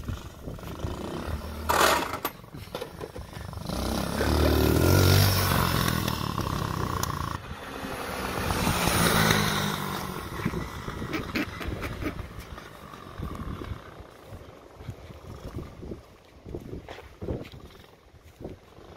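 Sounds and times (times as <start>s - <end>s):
small motorbike engine passing: 0.0s - 16.6s.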